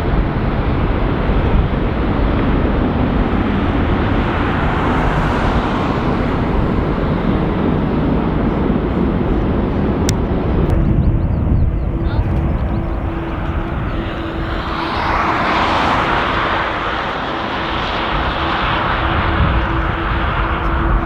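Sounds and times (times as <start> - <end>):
jet airliner engines: 0.0 - 21.0.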